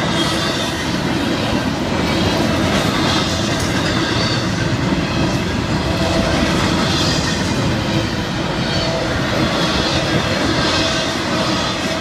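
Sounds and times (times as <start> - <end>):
steel wheels running on rails: 0.0 - 12.0.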